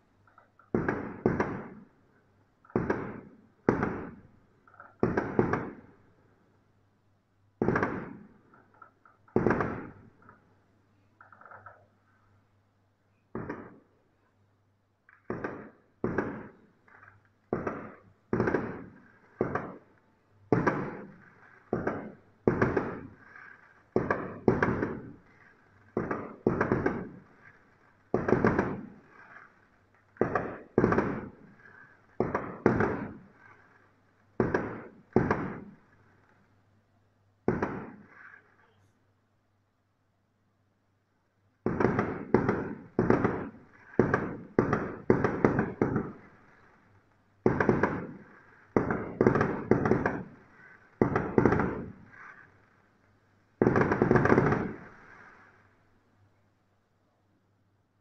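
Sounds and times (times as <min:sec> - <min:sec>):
fireworks booming with echo: 0:00.0 - 0:06.8, 0:07.5 - 0:38.9, 0:41.0 - 0:56.1.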